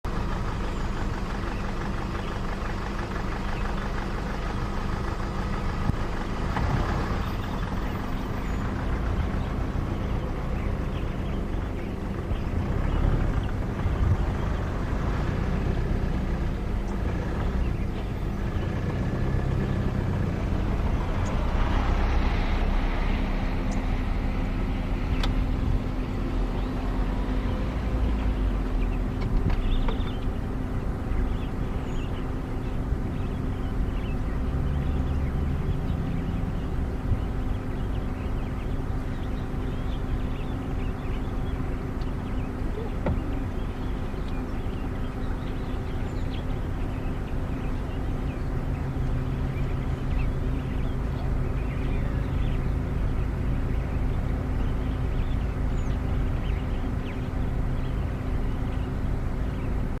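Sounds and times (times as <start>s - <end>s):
vehicle engine idling: 0.0s - 60.0s
faint bird chirps: 0.1s - 59.9s.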